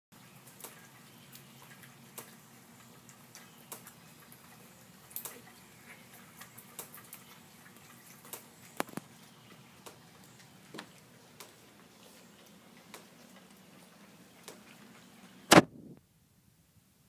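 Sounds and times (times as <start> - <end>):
puppies eating from a dish: 0.2 - 15.4.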